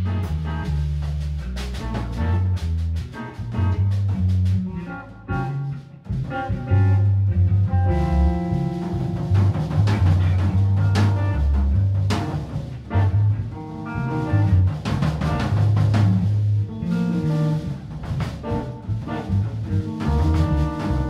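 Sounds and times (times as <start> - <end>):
electric guitars: 0.0 - 0.8, 1.4 - 21.0
deep bass notes: 0.0 - 21.0
drum kit: 0.0 - 21.0
jazz band playing: 0.0 - 21.0.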